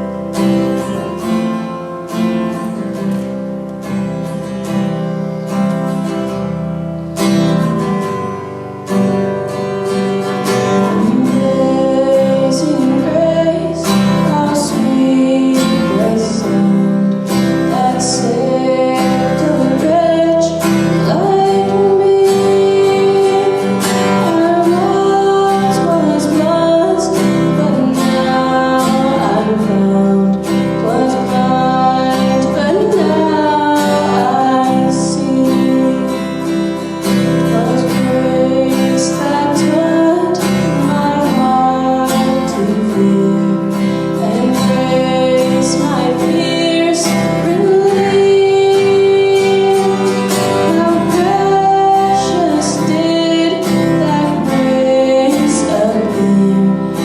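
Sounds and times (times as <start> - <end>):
strummed acoustic guitar: 0.0 - 57.0
woman singing: 9.0 - 57.0.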